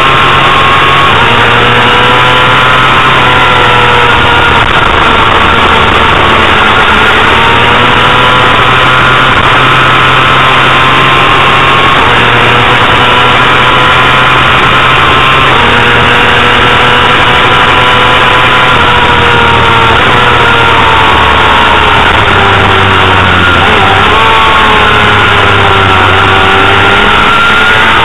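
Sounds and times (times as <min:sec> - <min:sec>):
motorcycle engine at high revs: 0:00.0 - 0:28.0
wind noise: 0:00.0 - 0:28.0.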